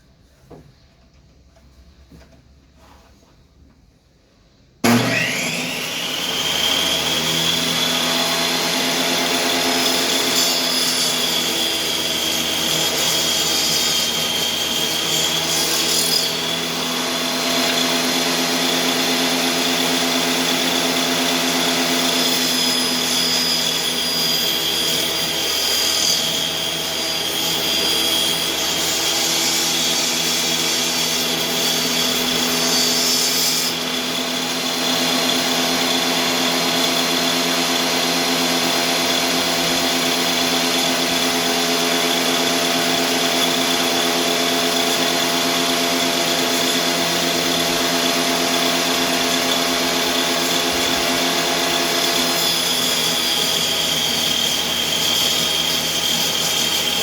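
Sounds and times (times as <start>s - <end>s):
electric table saw running: 4.8s - 57.0s.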